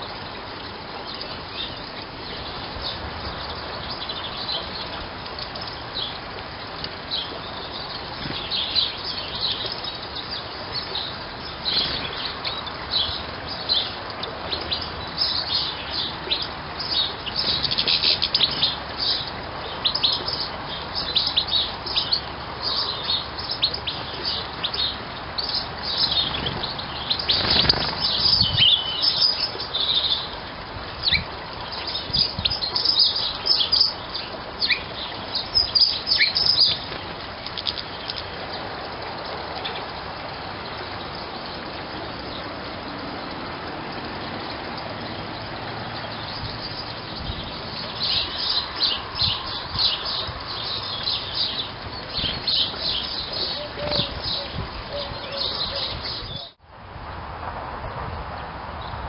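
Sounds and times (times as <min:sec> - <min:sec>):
finches twittering and chirping: 0:00.0 - 0:42.8, 0:44.4 - 0:56.6.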